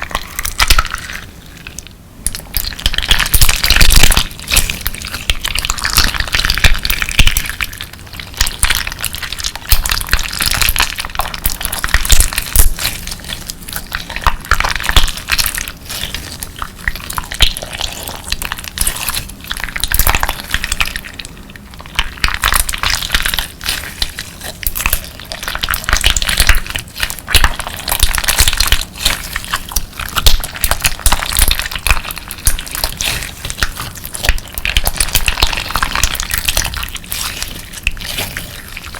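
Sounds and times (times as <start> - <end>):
crunchy slime crackling and clicking: 0.0 - 38.9.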